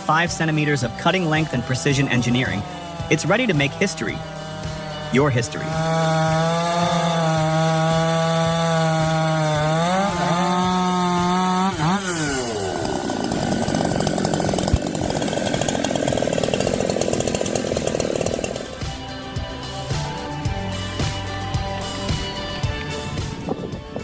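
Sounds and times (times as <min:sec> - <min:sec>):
chainsaw running at high revs: 0:00.0 - 0:23.5
chainsaw cutting wood: 0:00.0 - 0:23.8.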